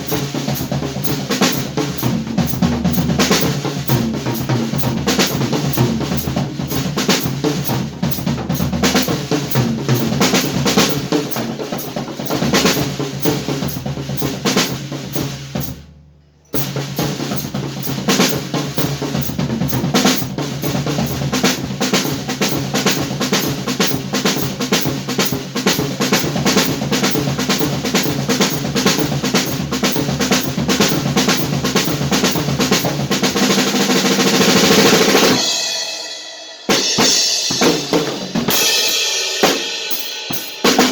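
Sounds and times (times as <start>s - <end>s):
drum kit played hard: 0.0s - 15.9s, 16.6s - 40.9s.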